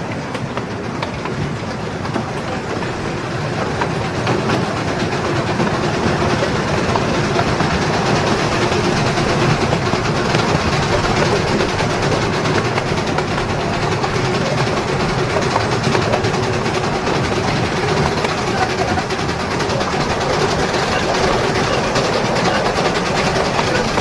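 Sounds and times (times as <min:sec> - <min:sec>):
miniature steam train clattering: 0:00.0 - 0:24.0.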